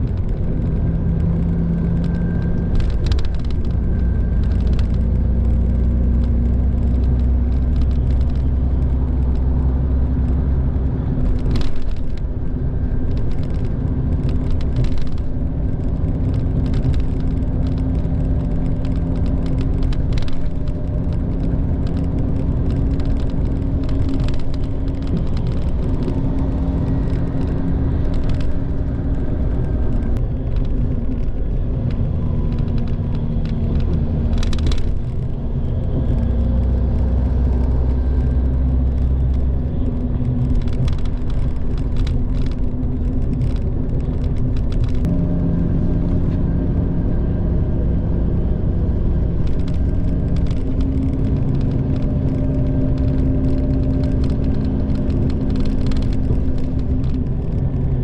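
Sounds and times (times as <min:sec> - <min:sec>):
bus engine and tyres droning: 0:00.0 - 0:58.0.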